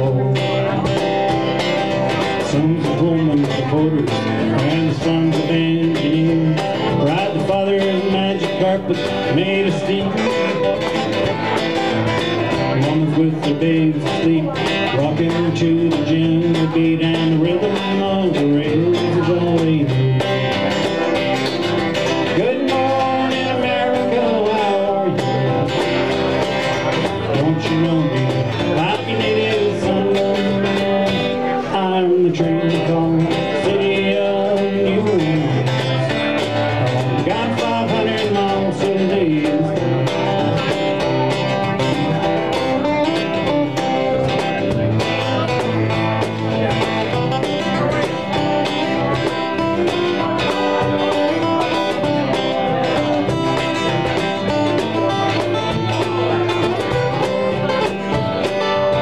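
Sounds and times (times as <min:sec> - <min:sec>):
acoustic guitars strumming: 0:00.0 - 0:59.0
man singing: 0:00.0 - 0:59.0.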